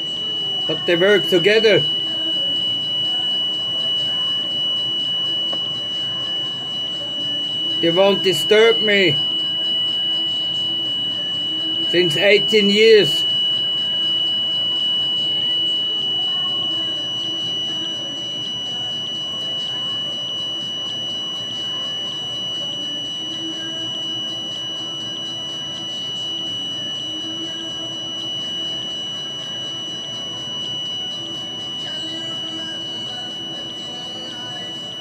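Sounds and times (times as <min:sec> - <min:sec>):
detector high-pitched tone: 0:00.0 - 0:35.0.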